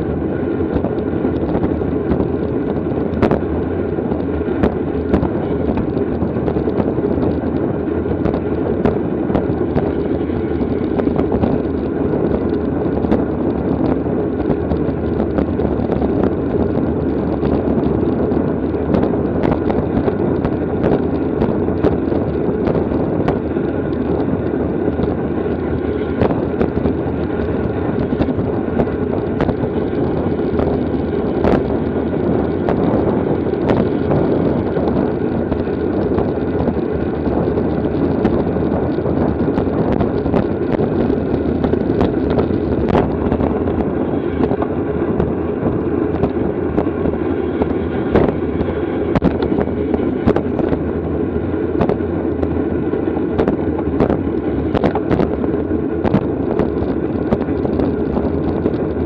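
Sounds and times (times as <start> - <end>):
road noise: 0.0 - 59.0
wind rushing: 0.0 - 59.0.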